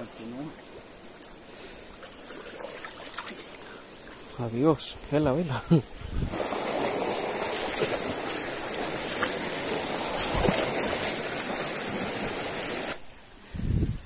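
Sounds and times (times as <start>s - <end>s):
creek rushing over stones: 0.0s - 13.1s.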